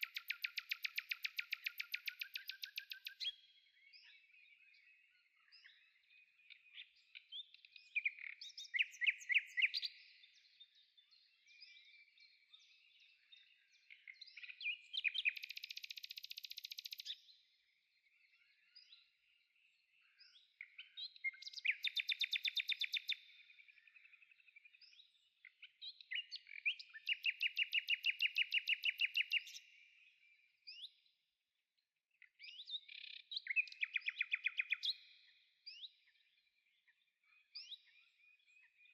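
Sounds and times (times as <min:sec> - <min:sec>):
songbirds chirping and trilling: 0:00.0 - 0:31.5, 0:32.1 - 0:38.9.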